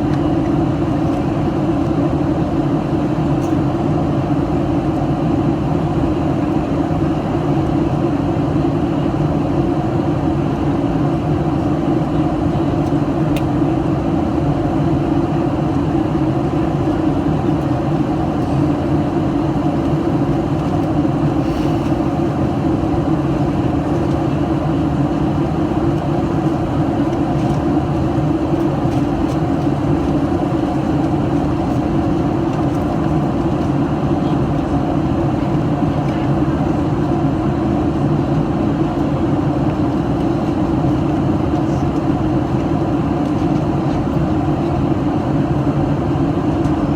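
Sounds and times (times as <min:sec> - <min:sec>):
airplane cabin roar: 0:00.0 - 0:46.9.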